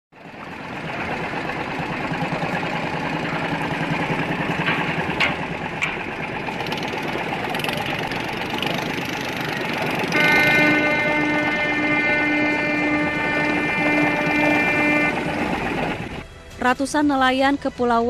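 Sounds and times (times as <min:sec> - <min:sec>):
boat engines running: 0:00.1 - 0:18.0.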